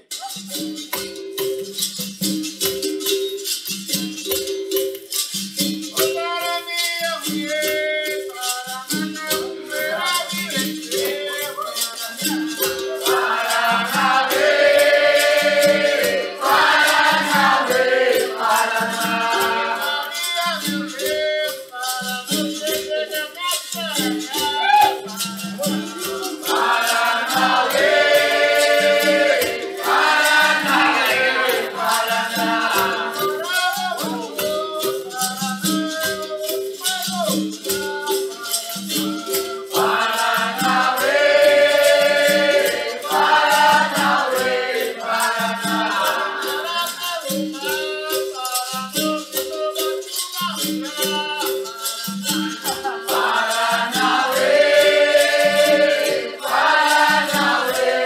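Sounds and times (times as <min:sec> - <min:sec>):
shaken rattle: 0:00.0 - 0:58.0
steady percussion: 0:00.0 - 0:58.0
group singing: 0:07.2 - 0:23.2, 0:24.0 - 0:36.9, 0:37.6 - 0:58.0.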